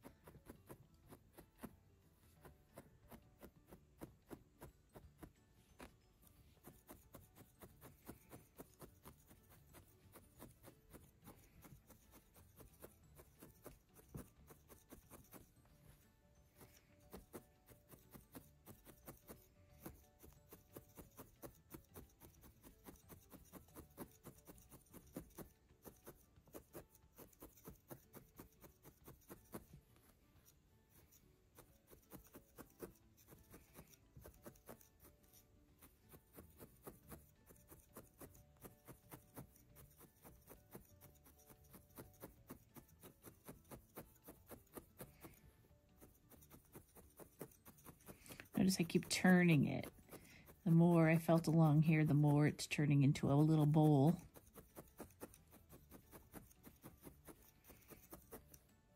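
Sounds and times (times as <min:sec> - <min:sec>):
felting needle poking wool: 0:00.0 - 0:58.9.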